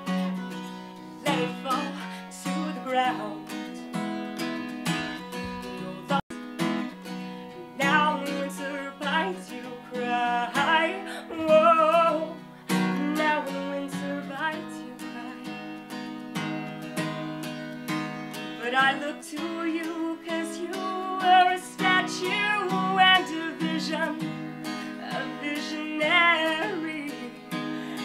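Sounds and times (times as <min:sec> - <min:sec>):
woman singing: 0:00.0 - 0:06.8, 0:07.5 - 0:28.0
acoustic guitar strumming: 0:00.0 - 0:28.0.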